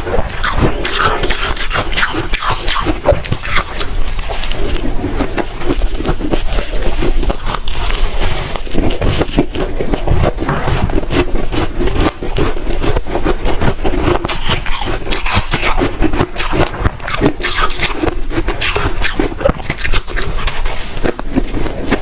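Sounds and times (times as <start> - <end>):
chewing crunchy shaved ice: 0.0 - 22.0.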